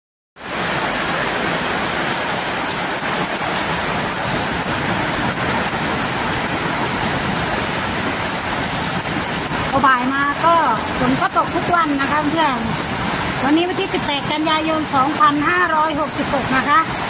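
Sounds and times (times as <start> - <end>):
heavy rain on concrete and roofs: 0.4 - 17.0.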